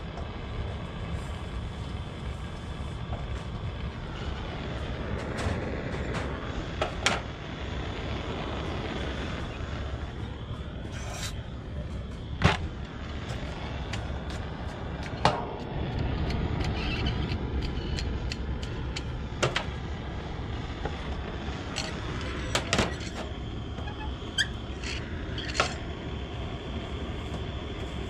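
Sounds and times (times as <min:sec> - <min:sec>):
gas torch roaring: 0:00.0 - 0:28.0.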